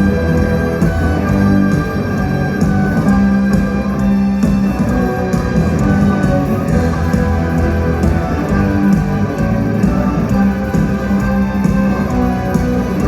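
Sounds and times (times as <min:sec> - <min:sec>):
electric guitar: 0:00.0 - 0:13.0
rock band with orchestra: 0:00.0 - 0:13.0
steady drum beat: 0:00.0 - 0:13.0.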